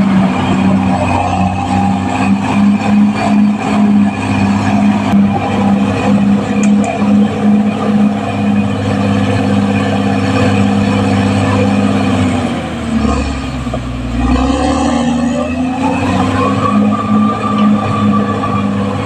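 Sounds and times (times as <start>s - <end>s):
rising whine: 0.0s - 13.2s, 14.5s - 19.0s
bulldozer diesel engine running: 0.0s - 19.0s.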